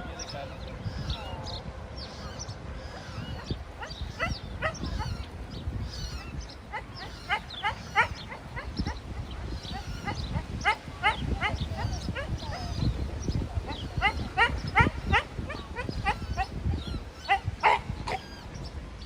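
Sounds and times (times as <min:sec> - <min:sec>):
wind rumble on microphone: 0:00.0 - 0:19.0
goslings peeping: 0:00.1 - 0:18.7.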